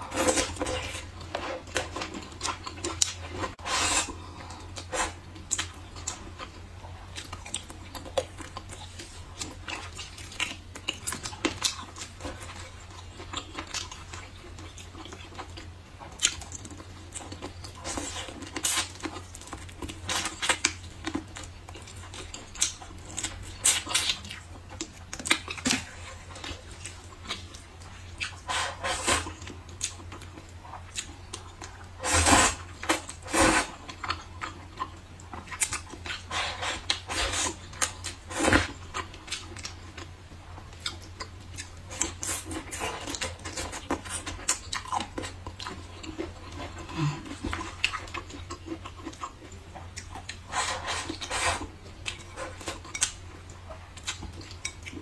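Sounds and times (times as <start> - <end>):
chewing and slurping noodles: 0.0 - 55.0.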